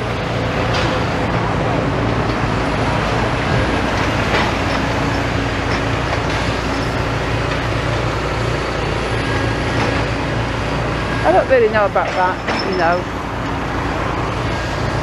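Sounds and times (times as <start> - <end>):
heavy diesel engines rumbling: 0.0 - 15.0
road traffic: 0.0 - 15.0.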